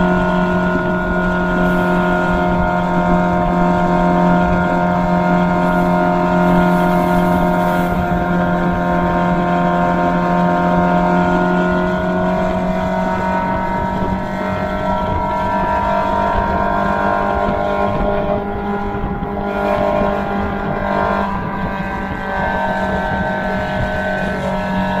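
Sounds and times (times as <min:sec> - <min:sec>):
sports car engine pulling at high revs: 0:00.0 - 0:25.0.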